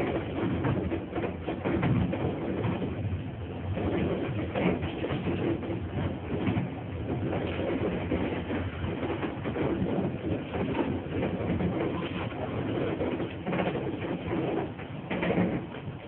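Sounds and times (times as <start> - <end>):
tram wheels clattering on rails: 0.0 - 16.0.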